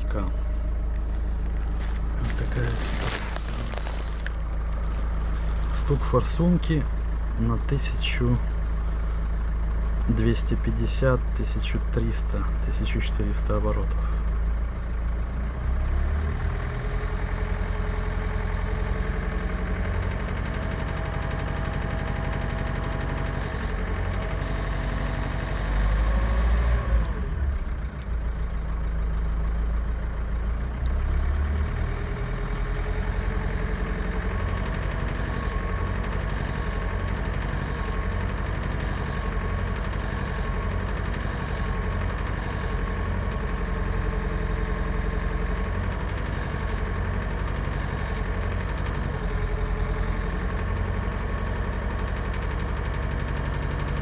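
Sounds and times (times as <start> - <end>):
diesel engine running at low revs: 0.0 - 54.0.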